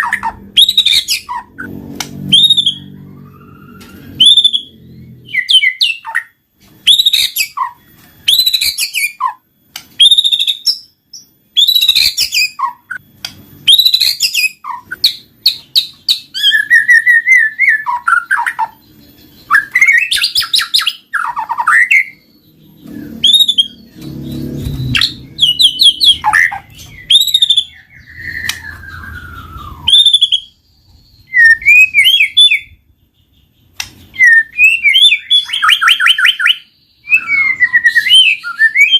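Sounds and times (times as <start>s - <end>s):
bird song with whistles and trills: 0.0s - 38.9s.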